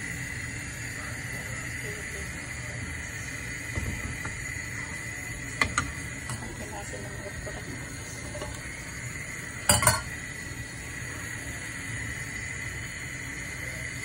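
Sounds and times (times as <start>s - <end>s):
gas hob hissing: 0.0s - 14.0s.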